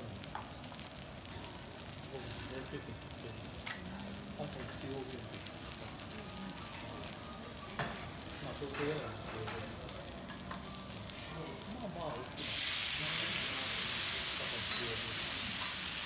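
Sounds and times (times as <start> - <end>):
griddle sizzling: 0.0 - 16.0
meat sizzling on hot plate: 0.0 - 16.0.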